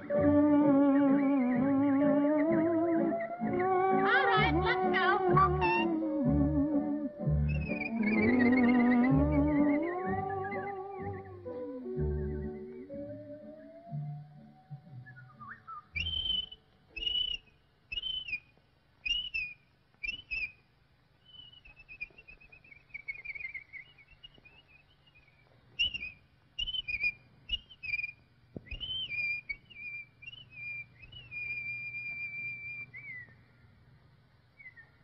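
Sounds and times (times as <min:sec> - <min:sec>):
whistled bird calls: 0:00.0 - 0:20.6, 0:21.2 - 0:33.7, 0:34.5 - 0:35.0.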